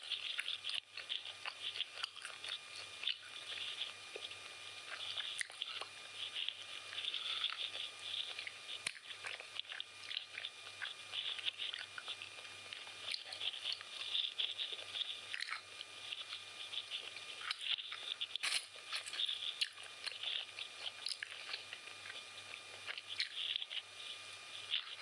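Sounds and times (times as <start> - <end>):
chewing with wet mouth smacks: 0.0 - 25.0.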